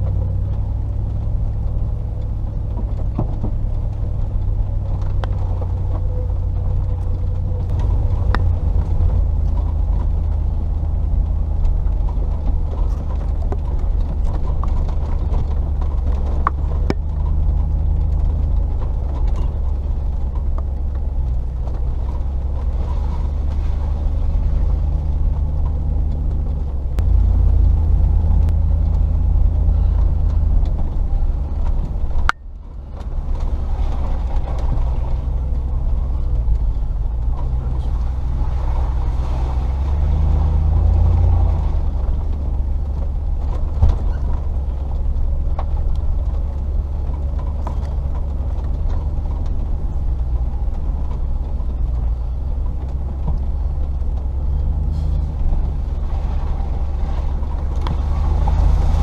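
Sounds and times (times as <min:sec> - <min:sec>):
car engine at low revs: 0:00.0 - 0:59.0.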